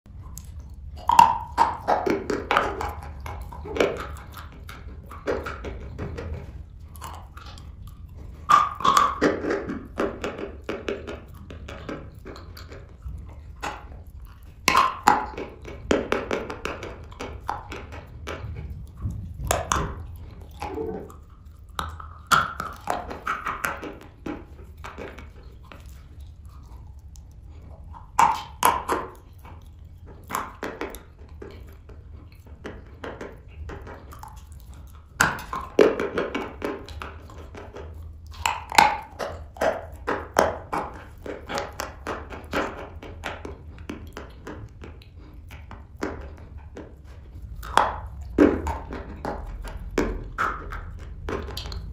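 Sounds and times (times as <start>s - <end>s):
crunchy chewing: 0.1s - 51.9s
quiet crumbling chews: 0.1s - 51.9s.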